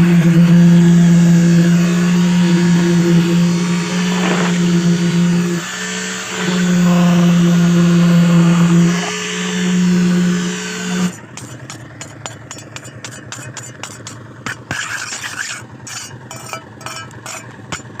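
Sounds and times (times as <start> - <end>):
power tool motor running: 0.0 - 18.0.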